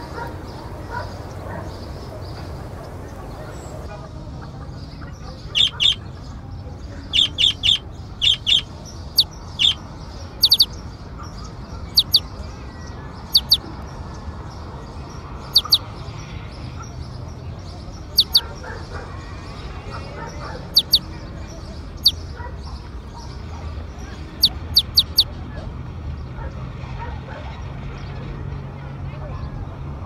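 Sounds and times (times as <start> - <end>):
birds chirping: 0.0 - 25.3.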